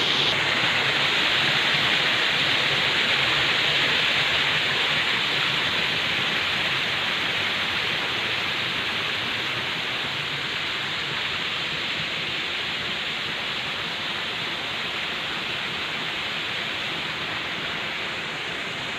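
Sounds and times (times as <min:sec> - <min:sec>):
rush of falling water: 0:00.0 - 0:18.9.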